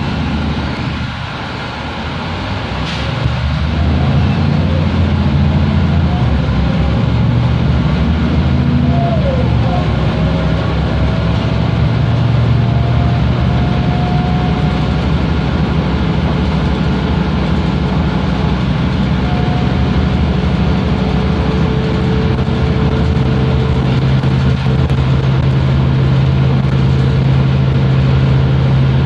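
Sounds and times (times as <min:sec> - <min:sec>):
bus diesel engine running: 0:00.0 - 0:29.0
faint engine whine: 0:00.0 - 0:29.0.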